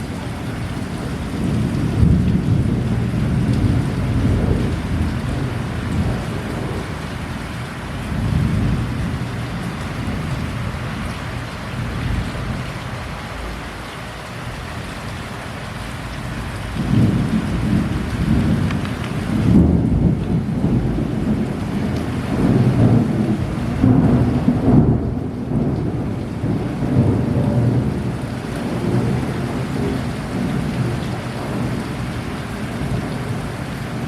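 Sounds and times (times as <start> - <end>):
low rumble of thunder: 0.0 - 13.2, 16.1 - 34.0
heavy rain: 0.0 - 34.0.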